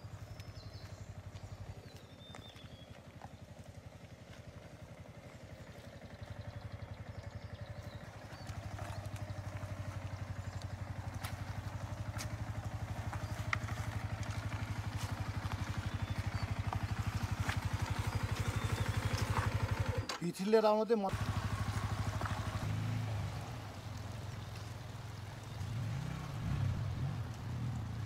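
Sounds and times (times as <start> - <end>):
motorcycle engine running low speed: 0.0 - 20.2, 21.1 - 28.0.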